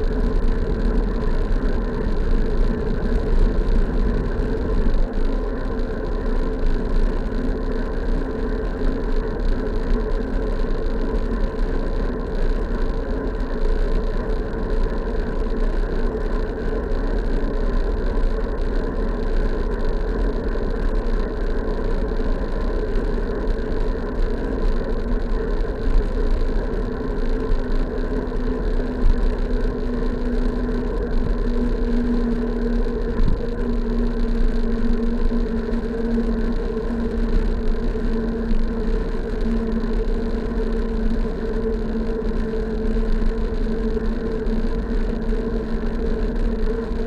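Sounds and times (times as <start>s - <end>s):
constant humming tone: 0.0s - 47.0s
wind and road rumble: 0.0s - 47.0s.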